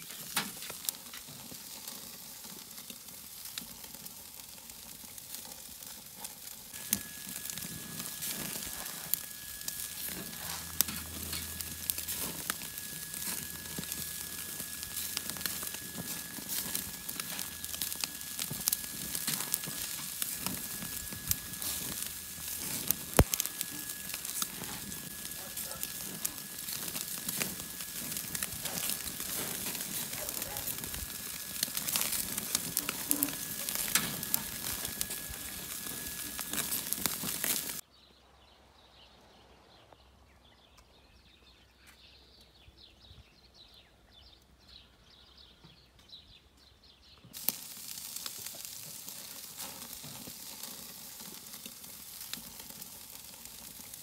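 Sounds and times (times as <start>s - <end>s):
meat sizzling on a grill: 0.0s - 37.8s, 47.3s - 54.0s.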